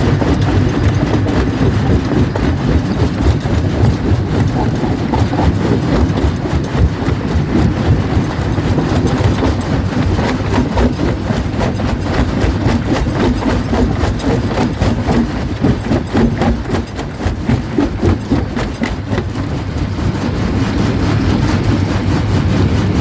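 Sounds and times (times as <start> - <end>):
jaw crusher rumbling: 0.0 - 23.0.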